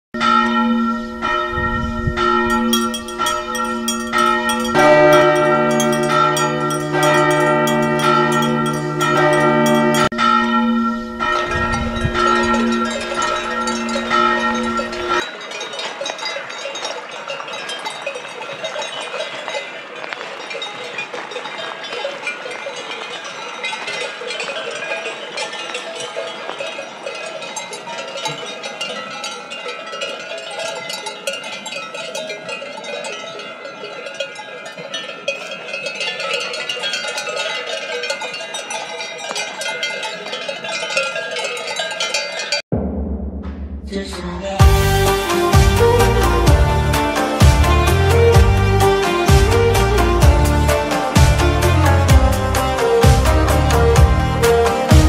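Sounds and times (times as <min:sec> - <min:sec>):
livestock bells clanking: 0:00.2 - 0:42.7, 0:44.6 - 0:55.0.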